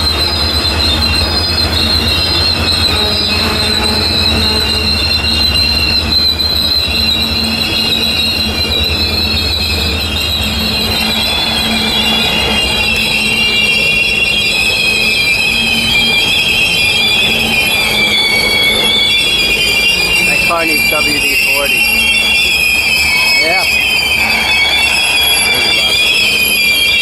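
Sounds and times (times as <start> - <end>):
rumble of rolling train cars: 0.0 - 27.0
train wheels squealing: 0.0 - 27.0.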